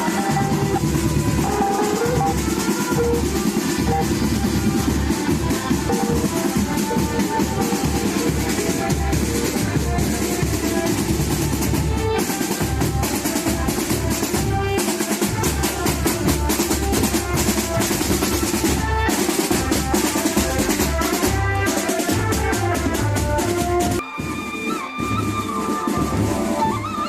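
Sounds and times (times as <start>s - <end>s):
loud dense drumming: 0.0s - 24.0s.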